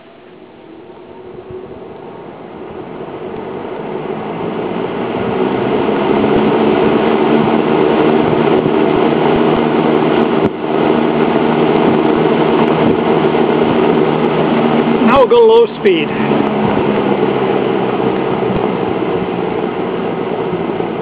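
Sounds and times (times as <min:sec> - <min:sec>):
box fan air rush: 0:00.0 - 0:21.0
fan motor hum: 0:00.0 - 0:21.0.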